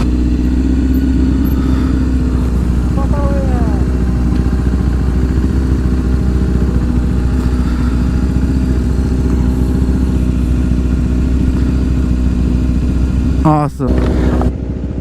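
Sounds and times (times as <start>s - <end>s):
low rumble: 0.0s - 15.0s
motorcycle engine running: 0.0s - 15.0s.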